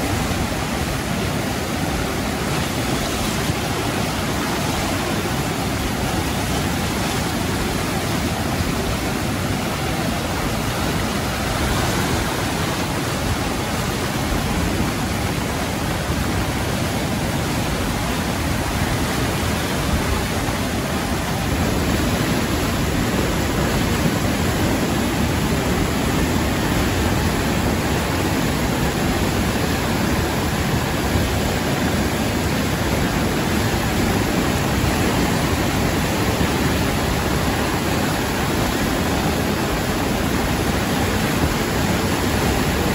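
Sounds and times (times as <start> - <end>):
river rushing through rapids: 0.0 - 42.9.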